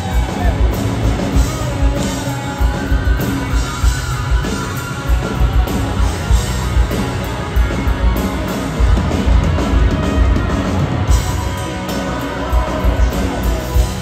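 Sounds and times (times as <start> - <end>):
electric guitar lead lines: 0.0 - 14.0
rock band playing live: 0.0 - 14.0.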